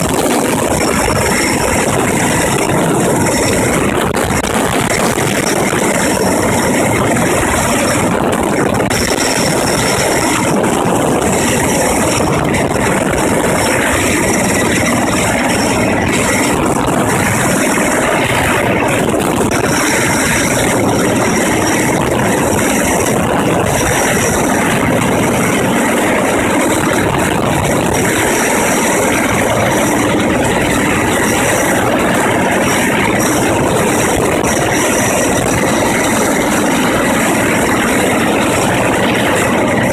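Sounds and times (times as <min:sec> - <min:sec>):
helicopter hovering overhead: 0:00.0 - 0:39.9.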